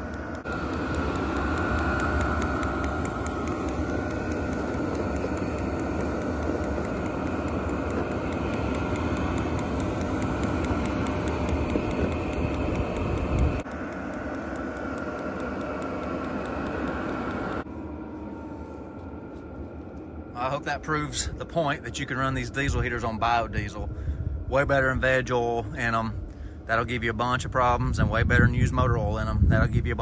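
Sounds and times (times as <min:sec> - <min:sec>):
air heater blower whirring: 0:00.0 - 0:30.0.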